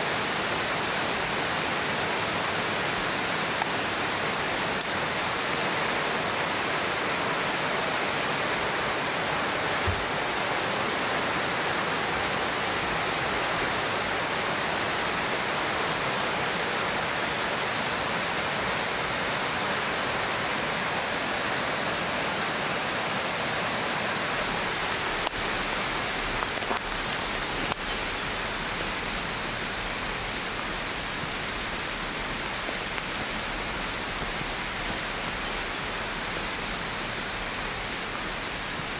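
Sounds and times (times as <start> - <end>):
forest ambience rushing: 0.0 - 38.9.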